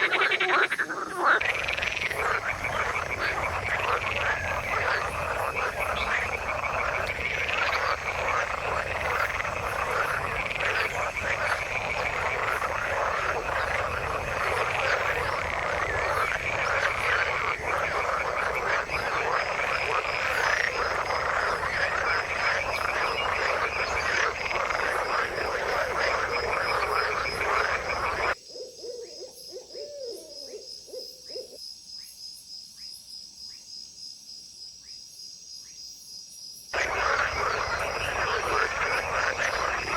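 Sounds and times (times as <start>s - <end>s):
frogs calling: 0.0s - 31.6s, 36.7s - 39.9s.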